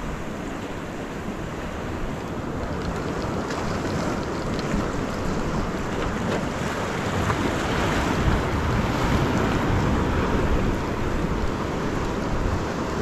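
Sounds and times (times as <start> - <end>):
surf washing against rocks: 0.0 - 13.0
wind buffeting microphone: 1.4 - 13.0.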